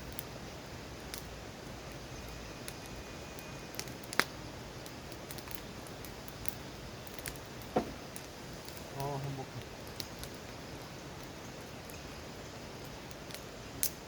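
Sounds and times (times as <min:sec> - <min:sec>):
campfire crackling: 0:00.0 - 0:14.0
faint steady hiss: 0:00.0 - 0:14.0.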